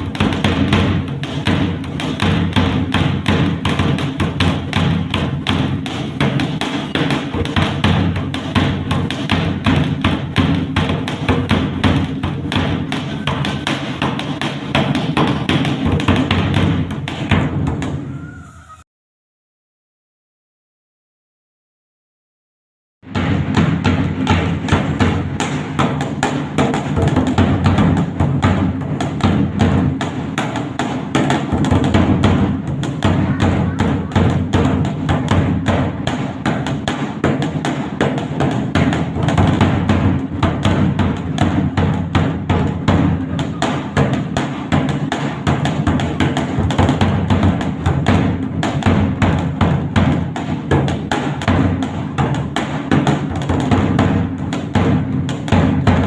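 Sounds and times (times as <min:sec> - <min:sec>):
barrel drum played with sticks: 0:00.0 - 0:18.0, 0:23.0 - 0:56.0.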